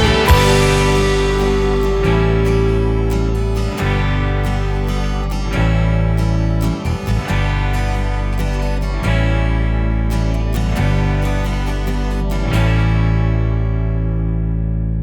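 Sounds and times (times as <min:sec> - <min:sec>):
background music with strummed guitar: 0:00.0 - 0:15.0.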